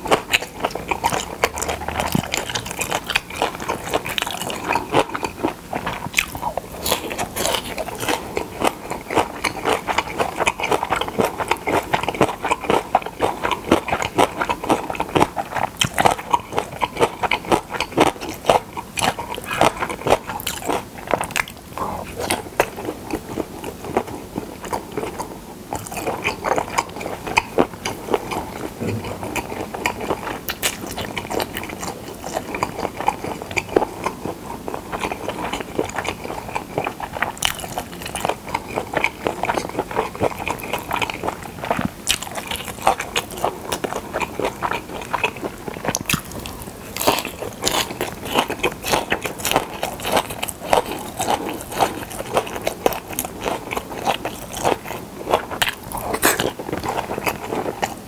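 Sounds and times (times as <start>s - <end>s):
close-miked chewing: 0.0s - 58.0s.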